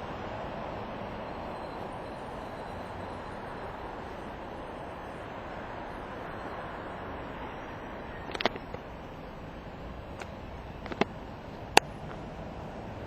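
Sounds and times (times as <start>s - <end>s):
vehicle rumble and hiss: 0.0s - 13.0s.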